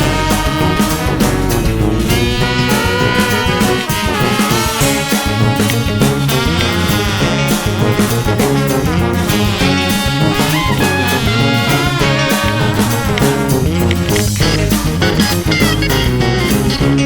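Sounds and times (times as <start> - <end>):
upbeat swing band with brass: 0.0 - 17.0.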